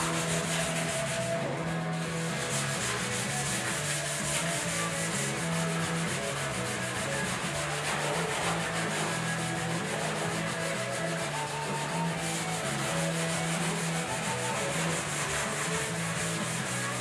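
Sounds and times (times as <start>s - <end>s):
sandpaper rubbing on steel: 0.0s - 17.0s.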